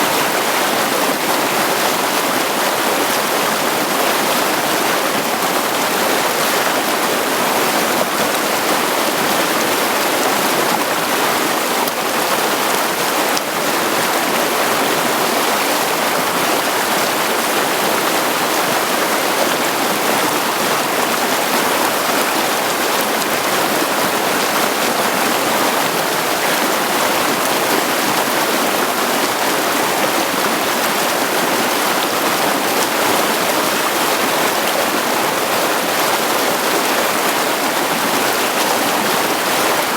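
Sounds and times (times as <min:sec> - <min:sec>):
creek water rushing over stones: 0:00.0 - 0:39.9.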